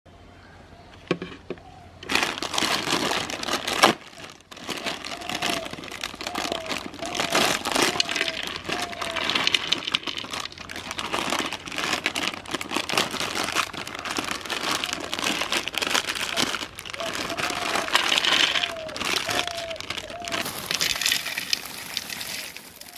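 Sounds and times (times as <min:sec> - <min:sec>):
snacks and packet crinkling: 0:02.0 - 0:22.9.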